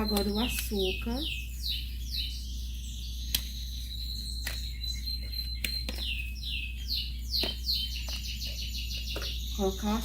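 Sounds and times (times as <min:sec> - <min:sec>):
bird chirping and trilling: 0:00.0 - 0:10.0.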